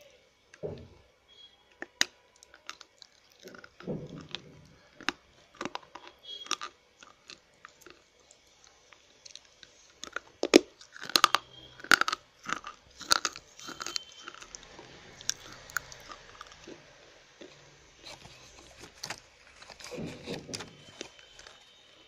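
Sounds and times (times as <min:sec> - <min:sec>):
slate pencils crunching: 0:01.8 - 0:22.0.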